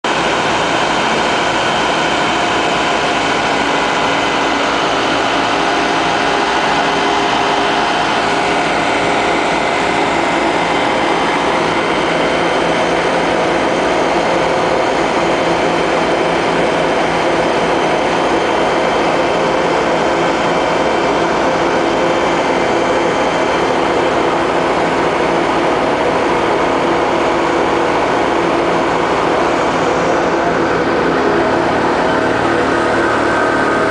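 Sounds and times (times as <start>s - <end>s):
truck engine droning: 0.1s - 33.9s.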